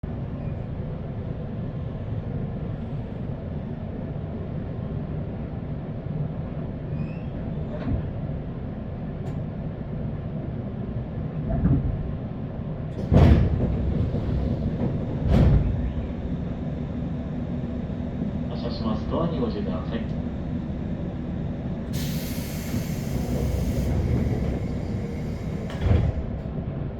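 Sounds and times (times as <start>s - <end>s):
train car rumble: 0.0s - 26.9s.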